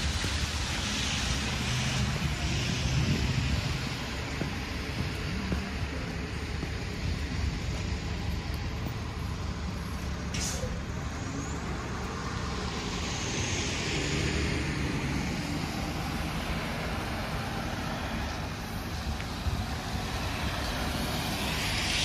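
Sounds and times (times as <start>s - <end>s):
tyre hiss on wet road: 0.0s - 8.6s, 9.2s - 22.0s.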